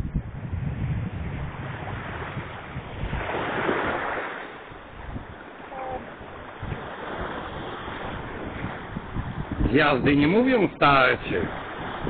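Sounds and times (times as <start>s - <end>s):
surf washing onto shore: 0.0s - 12.0s
wind buffeting microphone: 0.0s - 12.0s.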